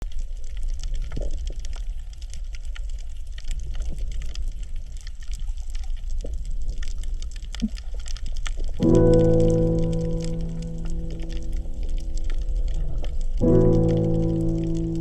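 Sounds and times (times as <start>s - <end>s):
low underwater rumble: 0.0s - 15.0s
underwater crackle of clicks: 0.0s - 15.0s.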